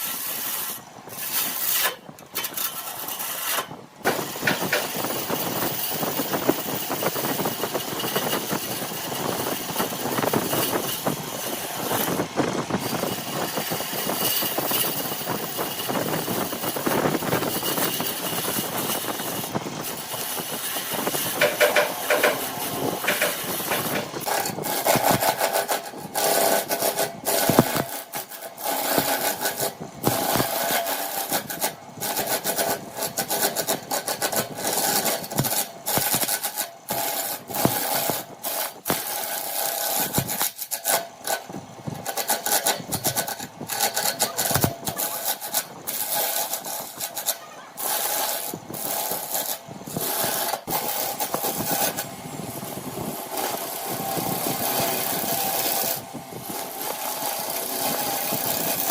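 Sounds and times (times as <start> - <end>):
lathe tool scraping wood: 0.0 - 58.9
wood lathe humming: 2.5 - 40.6, 42.0 - 58.9.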